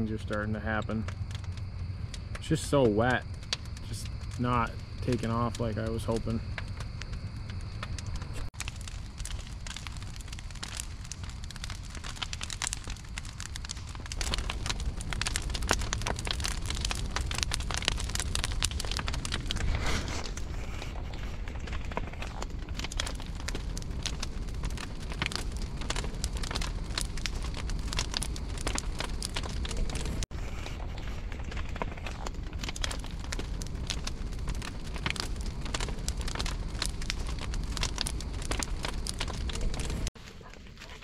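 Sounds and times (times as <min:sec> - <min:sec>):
wet wood fire crackling: 0:00.0 - 0:41.0.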